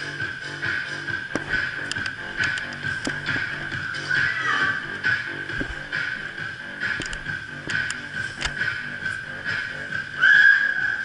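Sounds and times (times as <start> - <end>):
electronic music with high tone: 0.0 - 11.0.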